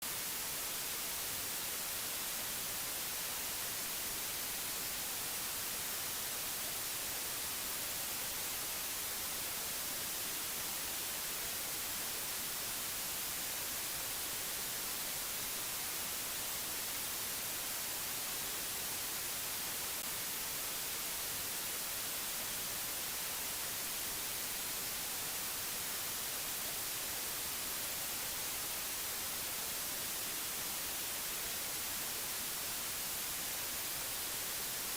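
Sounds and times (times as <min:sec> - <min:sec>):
white-noise hiss: 0:00.0 - 0:34.9.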